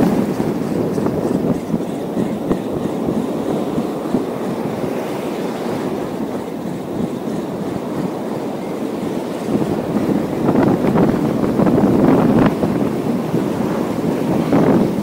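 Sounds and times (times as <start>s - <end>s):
sea waves on rocky shore: 0.0s - 15.0s
wind buffeting microphone: 0.0s - 15.0s.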